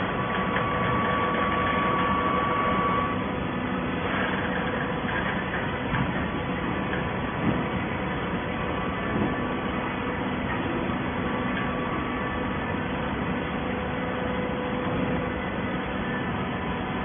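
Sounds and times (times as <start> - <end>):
baler machine hum and hiss: 0.0 - 17.0.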